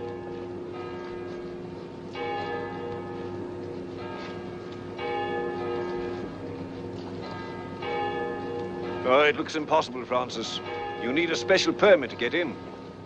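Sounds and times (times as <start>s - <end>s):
church bells tolling: 0.0s - 13.0s.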